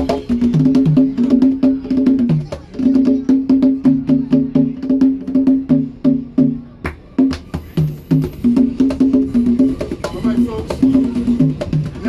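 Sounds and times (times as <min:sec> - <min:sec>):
hand drums playing fast rhythm: 0:00.0 - 0:12.0.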